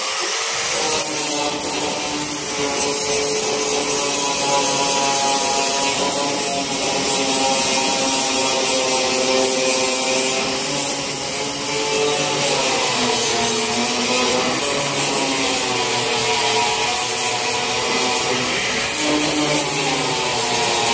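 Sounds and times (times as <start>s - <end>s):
angle grinder grinding steel: 0.0s - 20.9s.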